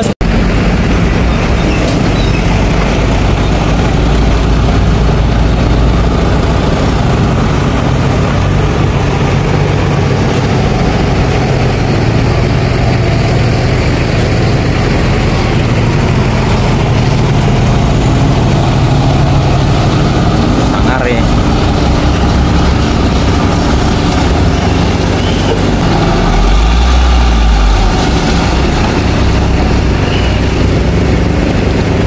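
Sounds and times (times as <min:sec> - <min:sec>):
heavy truck engines droning: 0:00.0 - 0:32.0.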